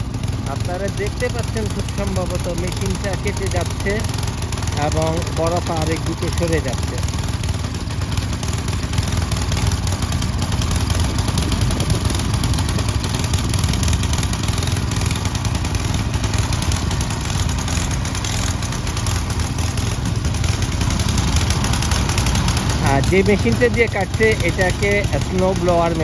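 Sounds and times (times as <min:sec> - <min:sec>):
snow blower engine running: 0:00.0 - 0:26.0.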